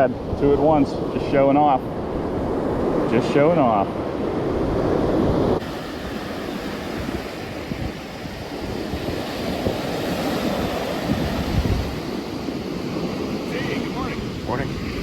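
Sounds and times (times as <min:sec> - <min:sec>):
ocean surf washing on beach: 0:00.0 - 0:15.0
wind on microphone: 0:00.0 - 0:15.0.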